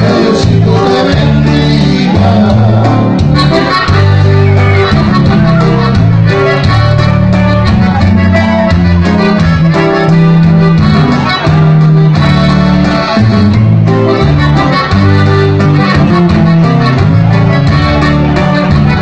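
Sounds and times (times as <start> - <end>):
live band playing through speakers: 0.0 - 19.0.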